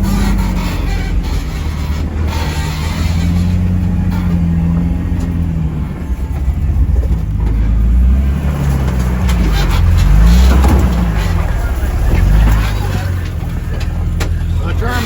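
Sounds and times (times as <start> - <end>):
vehicle engine running at low speed: 0.0 - 15.0.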